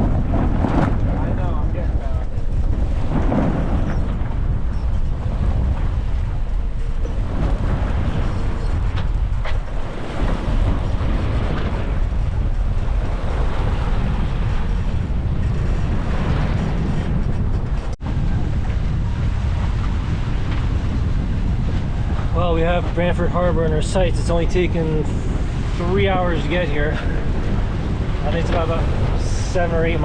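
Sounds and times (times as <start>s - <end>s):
waves washing along hull: 0.0s - 30.0s
wind buffeting microphone: 0.0s - 30.0s.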